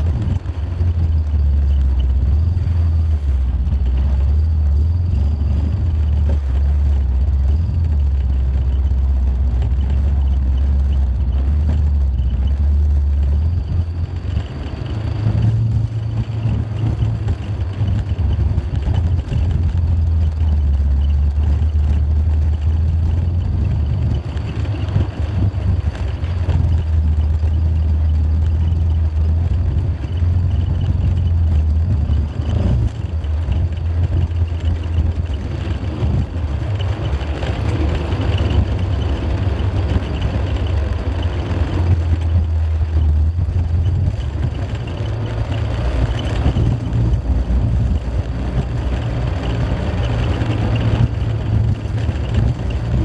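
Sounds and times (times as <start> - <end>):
car engine and road noise: 0.0 - 53.0
low rumble: 0.0 - 53.0.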